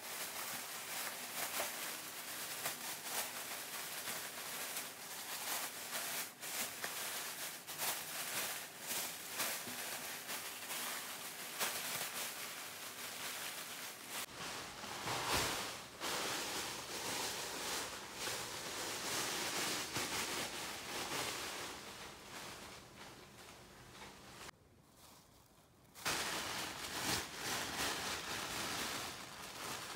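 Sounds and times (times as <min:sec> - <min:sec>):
plastic bags rustling: 0:00.0 - 0:29.9.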